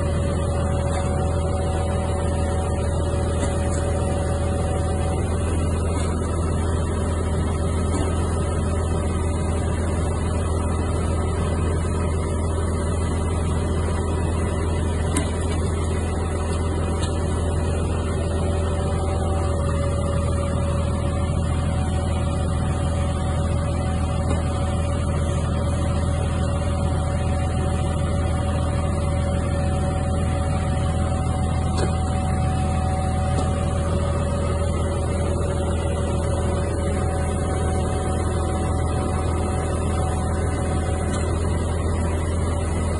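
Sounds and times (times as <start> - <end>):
conveyor whine: 0.0 - 42.9
tractor engine droning: 0.0 - 42.9.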